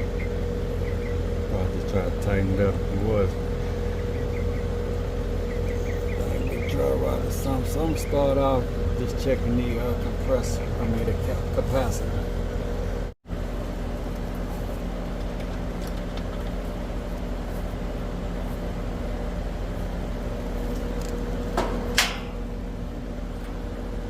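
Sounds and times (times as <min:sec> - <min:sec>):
air conditioner unit humming: 0:00.0 - 0:24.0.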